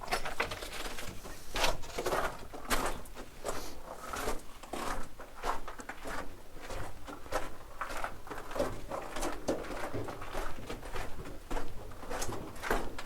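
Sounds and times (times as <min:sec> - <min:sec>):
footsteps crunching on rock rubble: 0:00.0 - 0:13.0.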